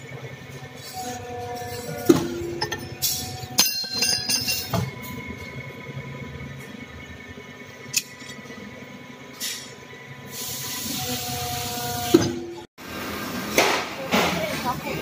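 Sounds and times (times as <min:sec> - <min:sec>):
press machine hum: 0:00.0 - 0:13.6.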